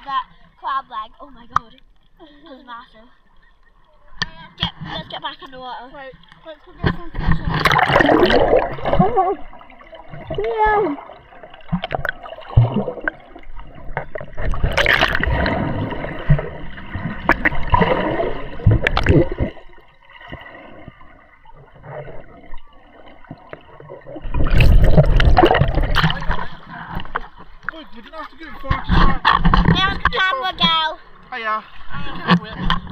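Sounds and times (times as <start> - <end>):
sea water splashing and gurgling: 6.1 - 32.9.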